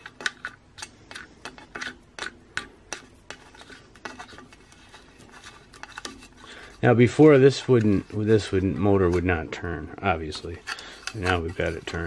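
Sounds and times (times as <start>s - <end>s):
propeller nut clicking and rubbing: 0.0s - 9.4s, 10.4s - 12.0s.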